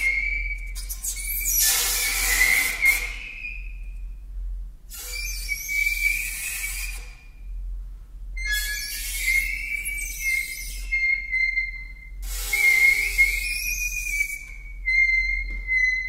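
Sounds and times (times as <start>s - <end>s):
high wavering whistling pitch: 0.0s - 4.0s, 5.0s - 7.6s, 8.4s - 16.0s.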